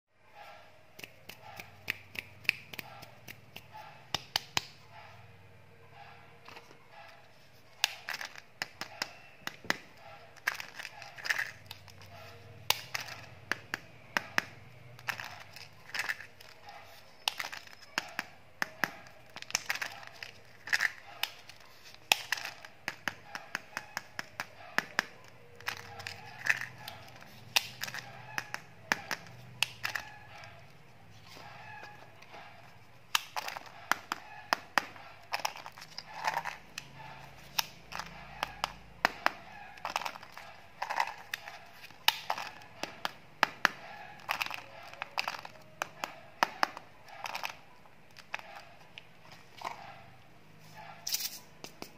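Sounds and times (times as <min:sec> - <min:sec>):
plastic packages clicking together: 0:07.8 - 0:49.9.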